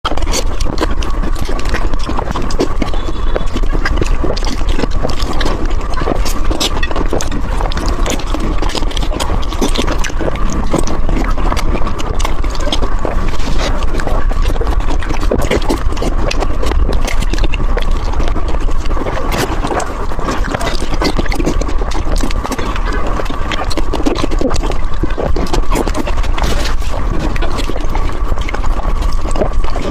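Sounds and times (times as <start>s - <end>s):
wet chewing: 0.0s - 29.9s
lip smacks: 0.1s - 29.9s
sticky mouth clicks: 0.1s - 29.9s.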